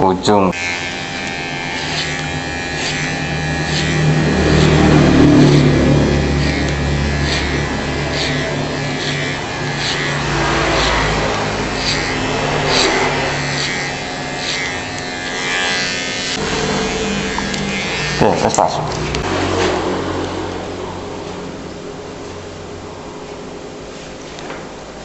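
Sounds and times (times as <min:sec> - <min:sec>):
hair clipper running: 0:00.5 - 0:22.2.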